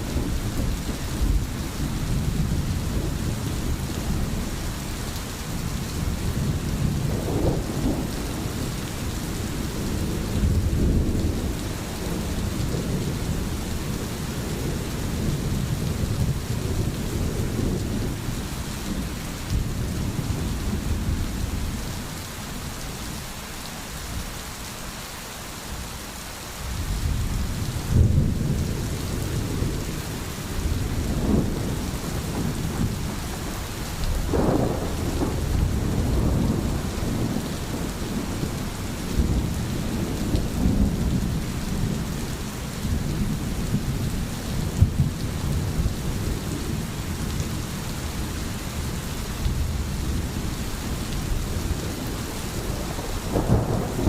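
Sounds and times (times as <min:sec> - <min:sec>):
steady rain: 0:00.0 - 0:54.0
low rolling thunder: 0:05.6 - 0:22.0, 0:26.7 - 0:54.0.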